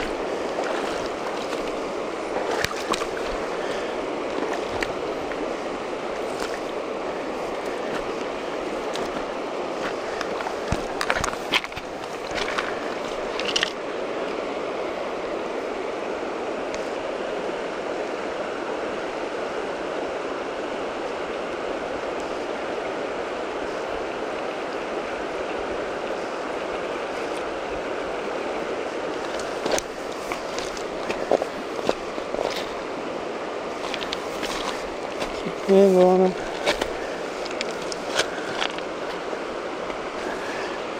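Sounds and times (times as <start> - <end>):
river current flowing: 0.0 - 40.9.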